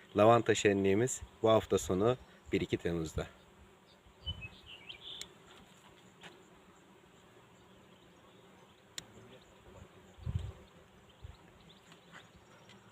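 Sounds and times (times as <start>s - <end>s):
bees buzzing: 0.0s - 12.9s.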